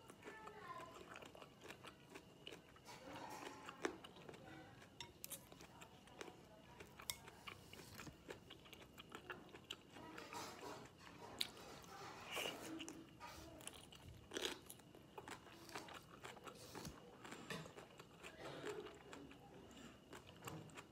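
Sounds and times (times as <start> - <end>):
chewing and wet mouth sounds: 0.0 - 20.9.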